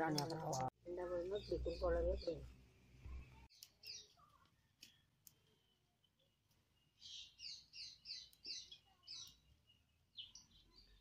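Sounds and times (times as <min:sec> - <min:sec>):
bird chirping: 0:00.9 - 0:11.0.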